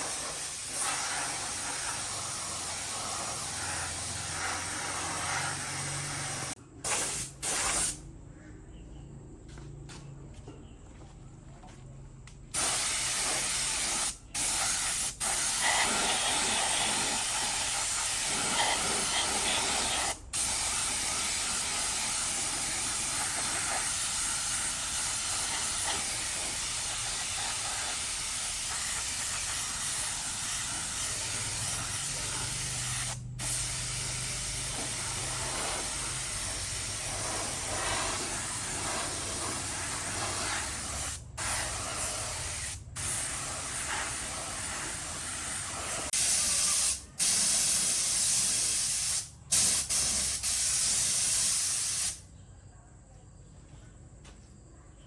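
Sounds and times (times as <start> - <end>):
sprayer hissing: 0.0 - 8.0, 12.6 - 52.2.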